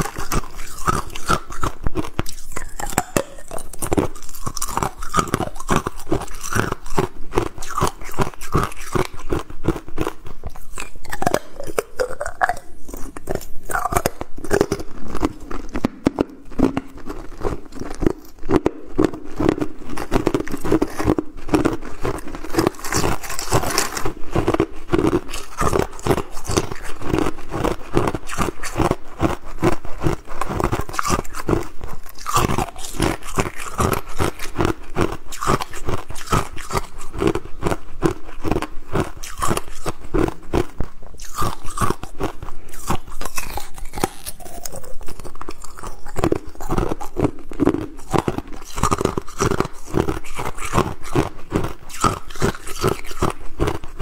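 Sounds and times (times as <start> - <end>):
ice being chewed crunching: 0.0 - 54.0.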